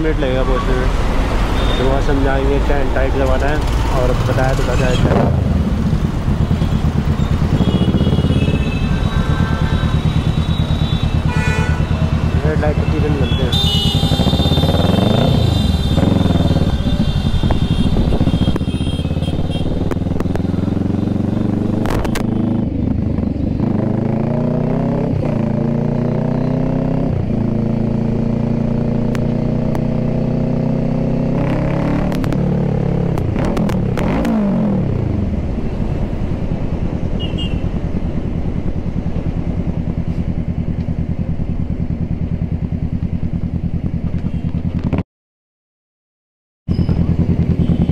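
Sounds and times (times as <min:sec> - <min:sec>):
motorcycle engine accelerating: 0:02.7 - 0:45.0, 0:46.7 - 0:47.9.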